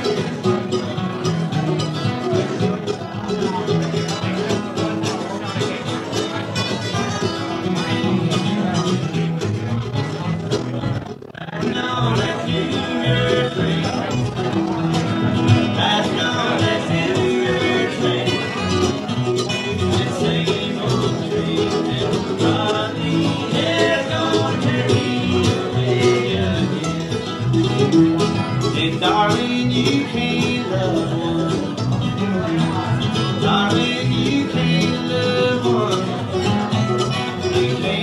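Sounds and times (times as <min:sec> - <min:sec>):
acoustic guitars picking and strumming: 0:00.0 - 0:38.0
string instrument: 0:00.0 - 0:38.0.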